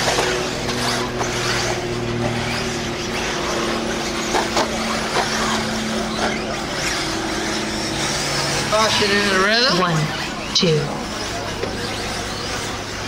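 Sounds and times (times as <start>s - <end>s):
electric motors whining: 0.0s - 13.0s
steady low hum: 0.0s - 13.0s.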